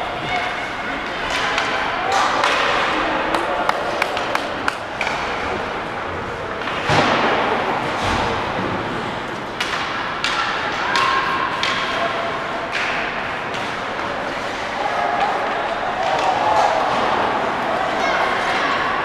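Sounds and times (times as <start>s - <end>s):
hockey sticks and puck clacking: 0.2s - 5.7s, 6.6s - 19.0s.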